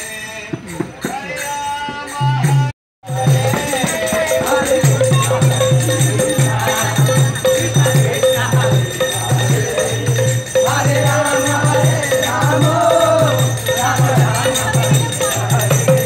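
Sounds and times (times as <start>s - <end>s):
hand cymbals ringing: 0.0s - 16.0s
voices chanting: 1.0s - 16.0s.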